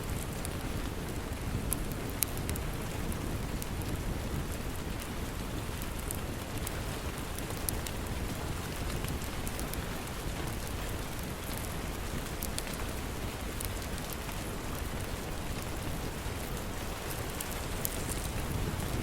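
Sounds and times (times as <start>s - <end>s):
steady rain: 0.0s - 19.0s
wood fire crackling: 0.0s - 19.0s.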